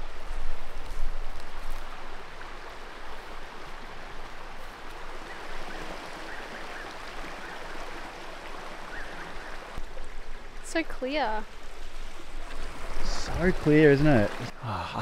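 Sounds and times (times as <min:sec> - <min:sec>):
water running over rocks: 0:00.0 - 0:14.6.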